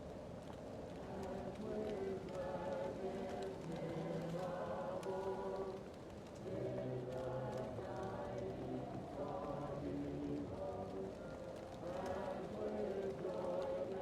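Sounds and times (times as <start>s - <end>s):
wood fire crackling: 0.0s - 14.0s
muffled choir singing: 0.9s - 14.0s.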